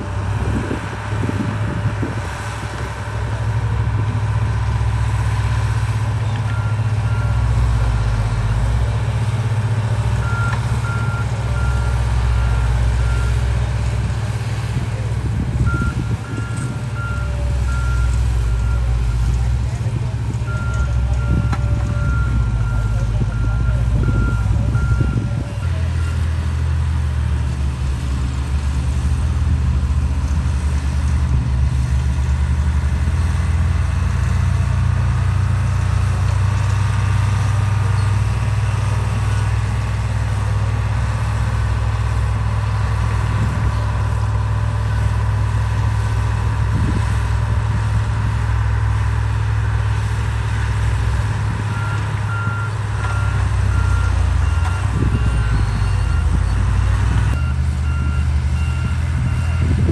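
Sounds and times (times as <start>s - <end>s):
diesel construction machinery running: 0.0s - 59.9s.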